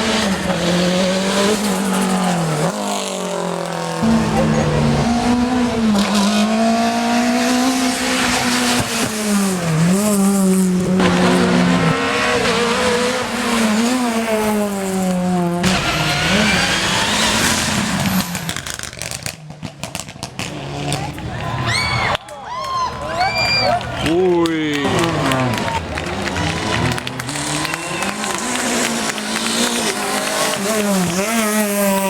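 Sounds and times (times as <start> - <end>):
race car engines at high revs: 0.0 - 21.7, 23.8 - 32.0.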